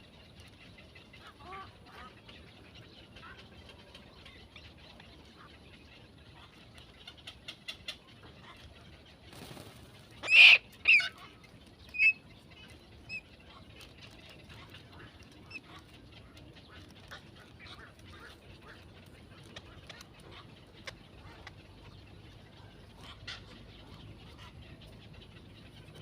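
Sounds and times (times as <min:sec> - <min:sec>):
bird calling: 0:01.2 - 0:26.0.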